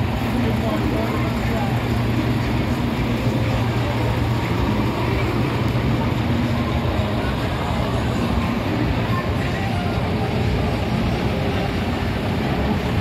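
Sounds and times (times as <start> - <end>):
diesel truck engines idling: 0.0 - 13.0
faint voices: 0.0 - 13.0.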